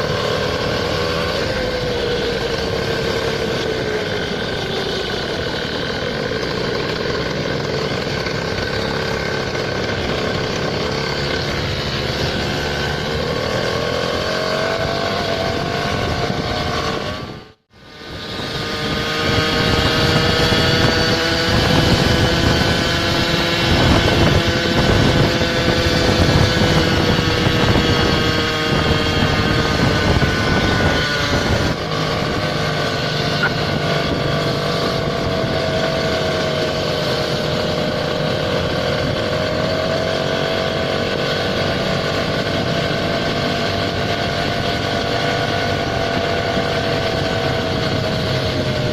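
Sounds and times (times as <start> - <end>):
motor scooter engine running: 0.0 - 48.9.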